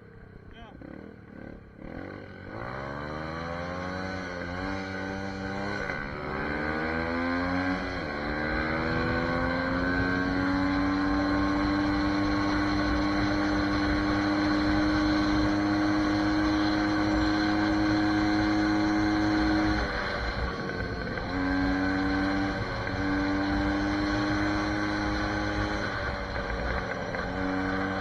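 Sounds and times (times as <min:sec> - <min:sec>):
dirt bike engine revving: 0:00.7 - 0:28.0.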